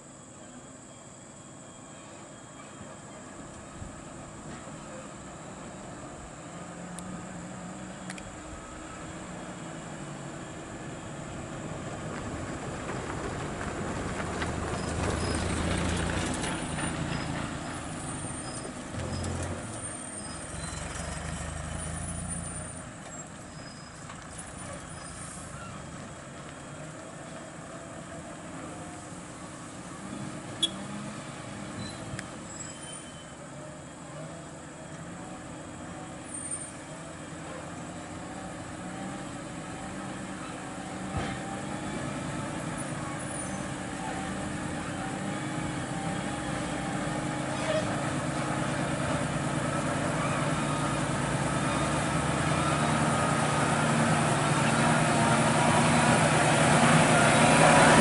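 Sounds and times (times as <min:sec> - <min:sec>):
truck diesel engine working: 0:00.2 - 0:58.0.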